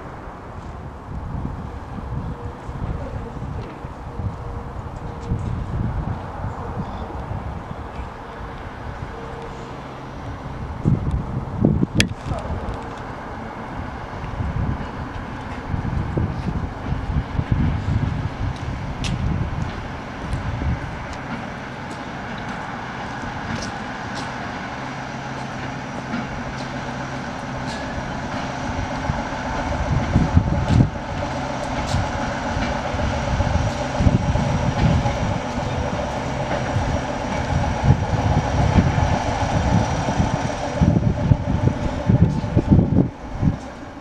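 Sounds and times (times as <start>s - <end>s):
diesel railcar engine passing: 0.0s - 44.0s
wheels clicking on rails: 0.0s - 44.0s.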